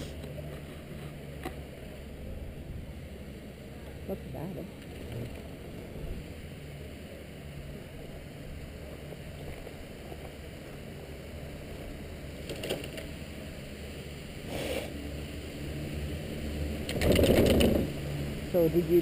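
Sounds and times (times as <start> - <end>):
chairlift low rumble: 0.0 - 19.0.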